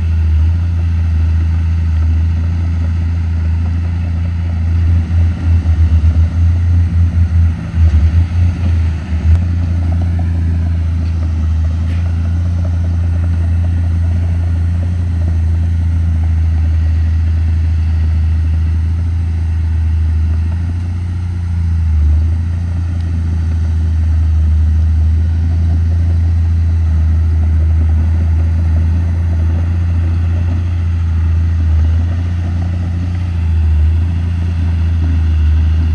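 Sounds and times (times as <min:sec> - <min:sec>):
bulldozer diesel engine drone: 0:00.0 - 0:35.9.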